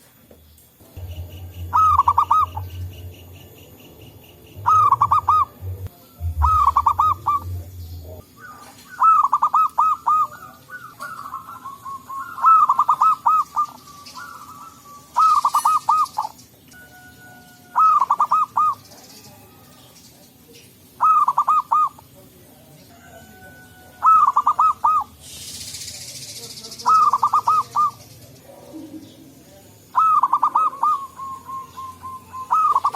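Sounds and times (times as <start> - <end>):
doves cooing: 0.9 - 19.7, 20.8 - 22.2, 23.1 - 25.2, 26.8 - 32.9.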